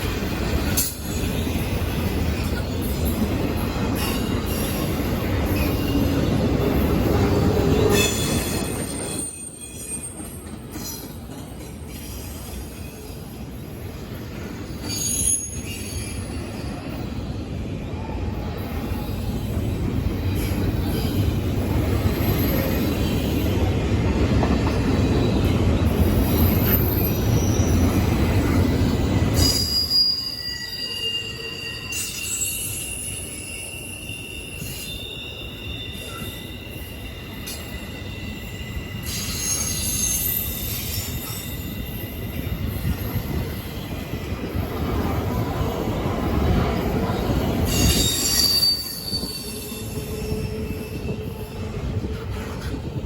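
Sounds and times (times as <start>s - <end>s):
train rumbling past: 0.0s - 53.0s
train wheels squealing: 0.0s - 53.0s.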